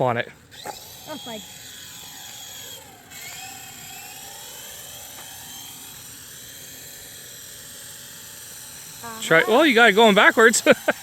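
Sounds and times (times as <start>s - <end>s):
toy helicopter motors whining: 0.0s - 11.0s.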